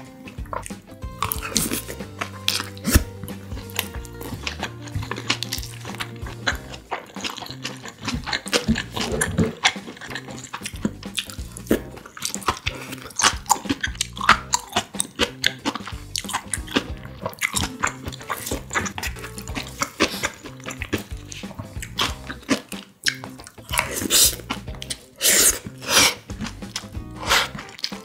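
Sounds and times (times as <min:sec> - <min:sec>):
chewing and crunching food: 0:00.0 - 0:28.0.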